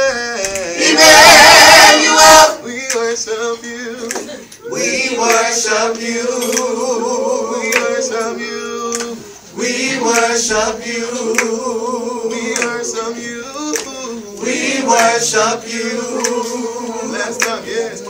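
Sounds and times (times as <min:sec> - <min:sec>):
vocal group singing in harmony: 0:00.0 - 0:18.0.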